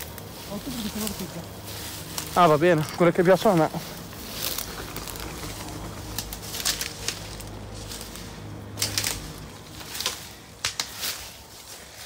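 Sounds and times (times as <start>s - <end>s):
faint low hum: 0.0s - 12.0s
footsteps crunching on dry ground: 0.0s - 12.0s.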